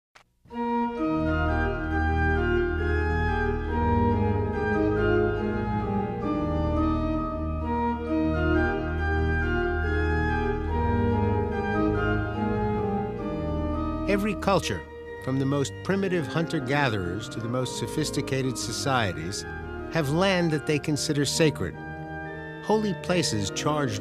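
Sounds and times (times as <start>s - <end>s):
organ theme music: 0.5s - 24.0s.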